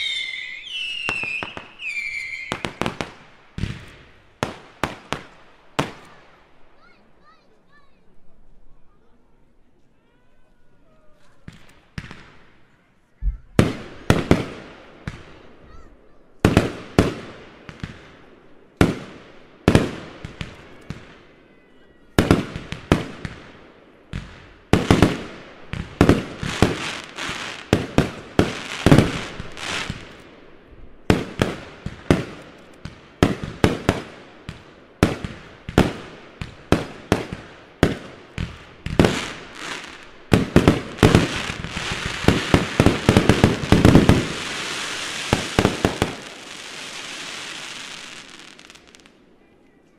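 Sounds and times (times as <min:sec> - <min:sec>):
firework bursts with crackle: 0:00.0 - 0:06.4, 0:13.3 - 0:21.4, 0:22.0 - 0:49.2.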